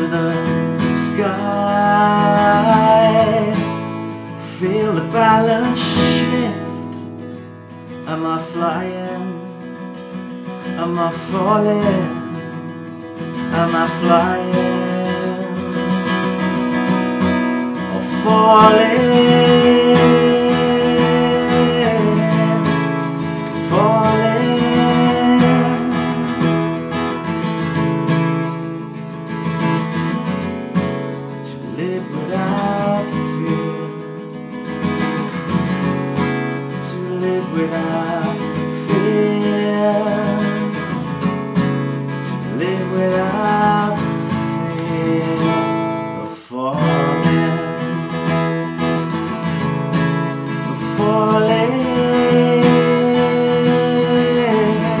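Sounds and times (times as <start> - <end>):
man singing: 0.0 - 27.3, 31.2 - 35.8, 36.5 - 48.8, 50.3 - 55.0
acoustic guitar strumming: 0.0 - 55.0.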